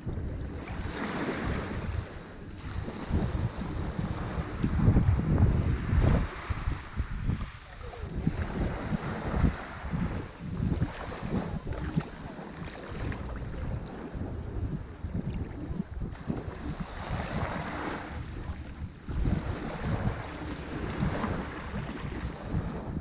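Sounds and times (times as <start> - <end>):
ocean surf washing on shore: 0.0 - 23.0
wind buffeting microphone: 0.0 - 23.0.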